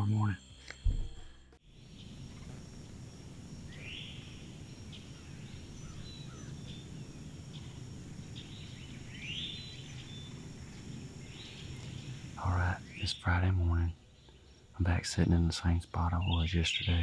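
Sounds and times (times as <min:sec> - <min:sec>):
birds chirping: 0:00.0 - 0:17.0
faint hiss: 0:01.7 - 0:17.0.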